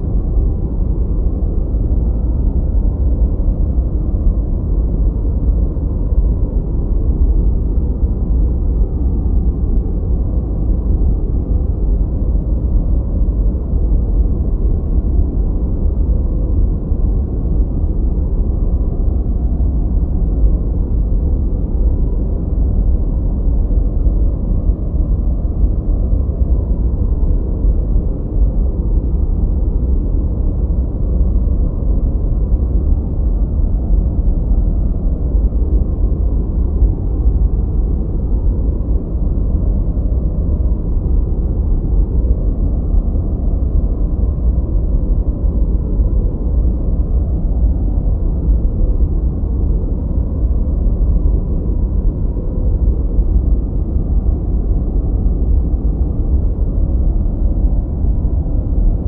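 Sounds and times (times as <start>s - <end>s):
deep rumbling white noise: 0.0s - 59.0s.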